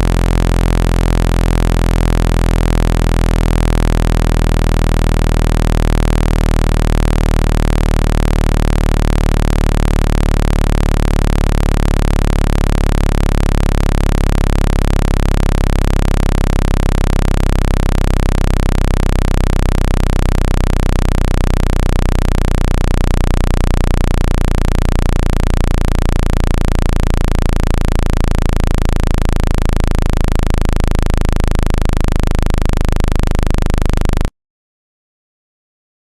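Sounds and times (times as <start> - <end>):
low-pitched electronic hum: 0.0 - 34.3.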